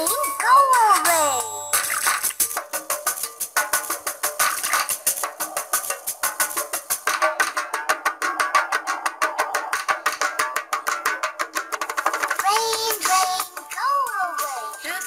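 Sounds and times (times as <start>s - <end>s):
instrumental children's music: 0.0s - 15.0s.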